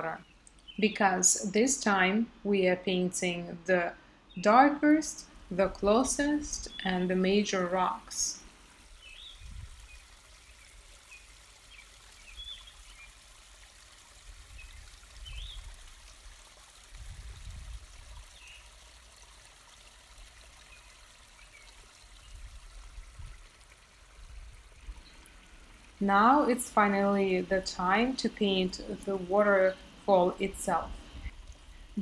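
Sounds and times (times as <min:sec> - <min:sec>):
steady low hiss: 0:00.0 - 0:32.0.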